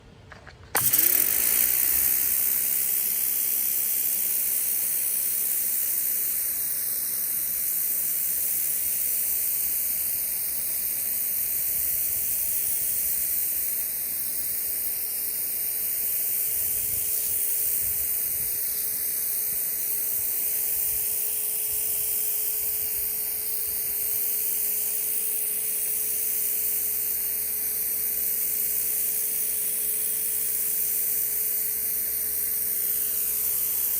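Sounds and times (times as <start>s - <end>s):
pressure washer water jet hissing: 0.8s - 33.9s.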